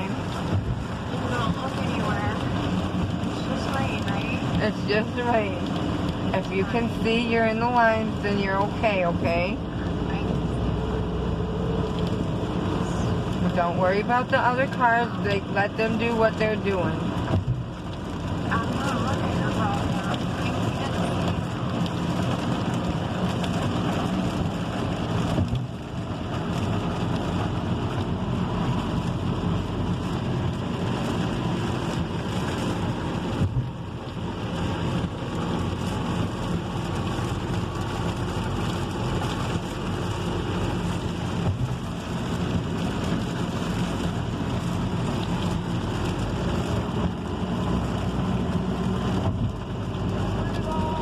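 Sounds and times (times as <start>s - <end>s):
rain on a car: 0.0s - 51.0s
road and engine drone: 0.0s - 51.0s
tyres on wet road: 0.0s - 51.0s.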